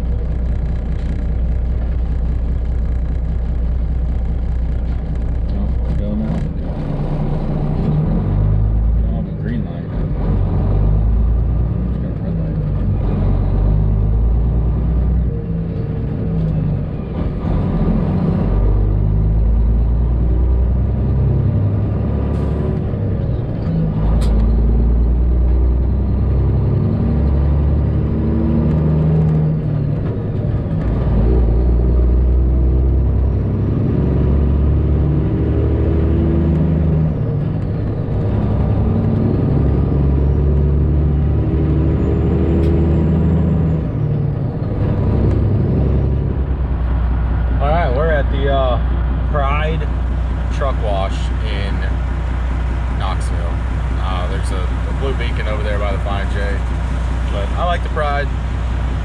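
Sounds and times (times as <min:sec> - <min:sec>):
diesel truck engine shifting gears: 0:00.0 - 0:59.0.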